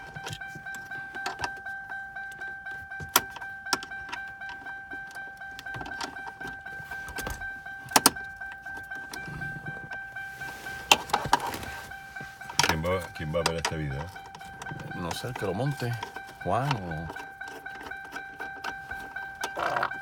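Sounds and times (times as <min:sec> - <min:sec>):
car warning chime dinging: 0:00.0 - 0:20.0.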